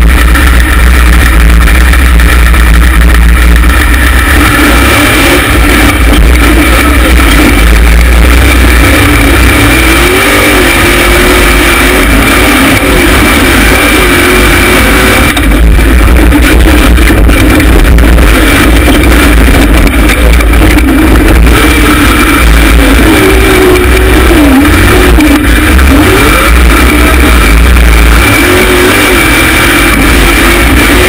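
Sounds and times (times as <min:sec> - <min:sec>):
engine running hard under load: 0:00.0 - 0:31.0.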